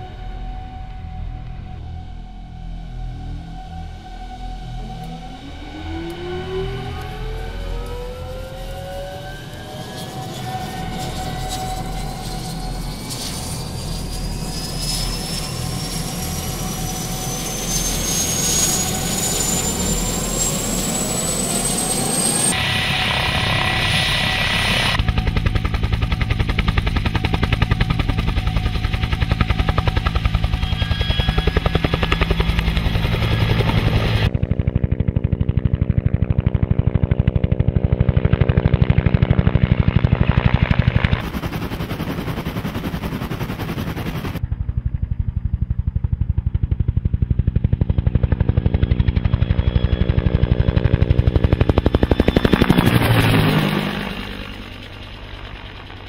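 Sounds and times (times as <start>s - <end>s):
helicopter rotor beat: 0.0s - 56.0s
helicopter turbine whine rising: 0.0s - 56.0s.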